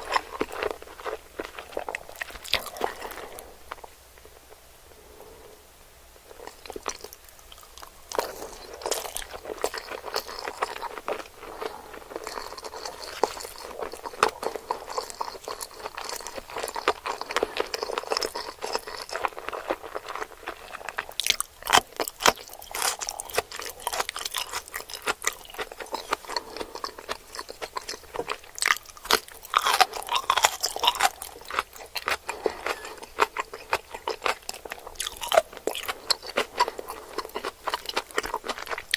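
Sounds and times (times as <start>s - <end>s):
person chewing with wet crunching: 0.0s - 5.4s, 6.2s - 38.9s.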